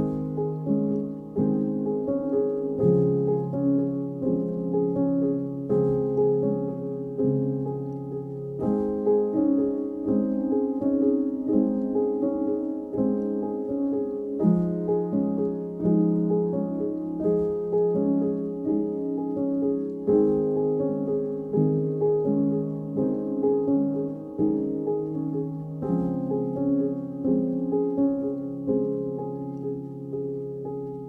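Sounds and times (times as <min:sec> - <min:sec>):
piano instrumental music: 0:00.0 - 0:31.0.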